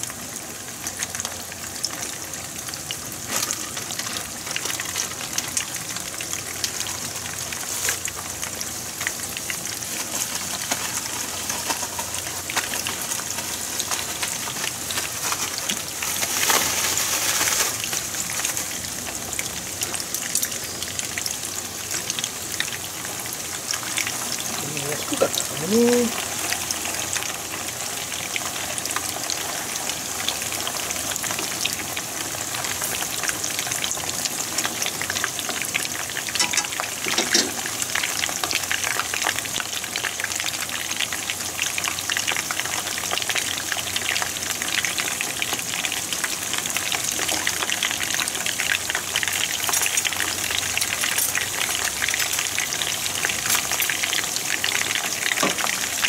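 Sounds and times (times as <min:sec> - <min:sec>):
deep-frying crackling sizzle: 0:00.0 - 0:56.0.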